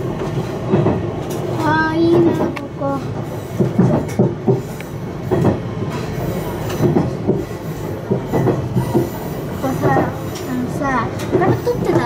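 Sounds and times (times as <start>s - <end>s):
diesel railcar rumble: 0.0s - 12.0s
wheels clacking over rail joints: 0.0s - 12.0s.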